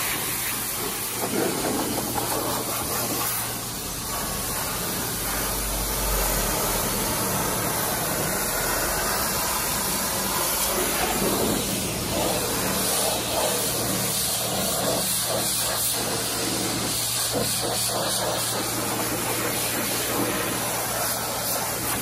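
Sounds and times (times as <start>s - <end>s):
pressure washer spraying water: 0.0s - 22.0s.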